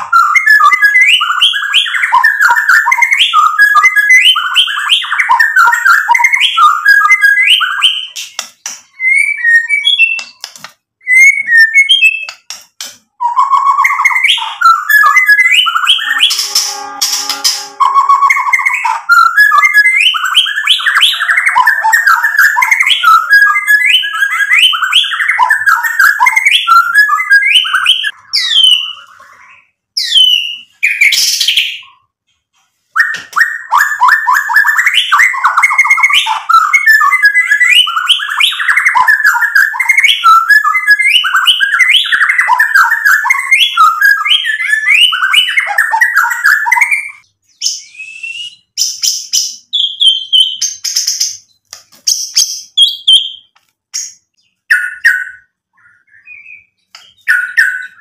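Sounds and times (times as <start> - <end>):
bird singing whistles and trills: 0.0 - 10.4, 11.0 - 12.5, 13.1 - 32.1, 33.0 - 58.0.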